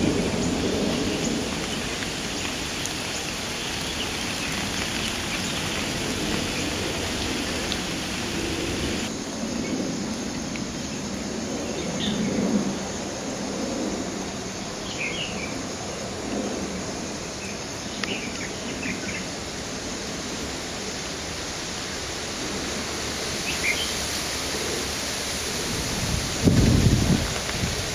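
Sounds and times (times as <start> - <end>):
steady rain hiss: 0.0 - 27.9.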